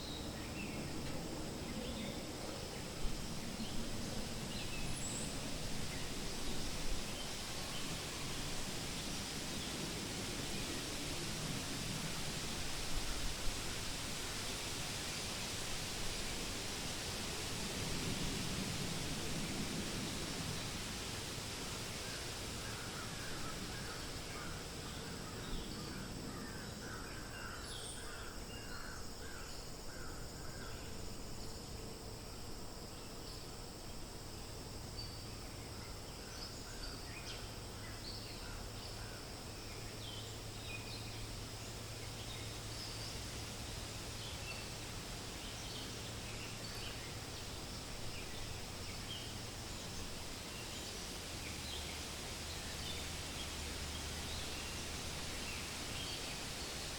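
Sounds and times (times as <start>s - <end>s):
wind rustling leaves: 0.0s - 56.9s.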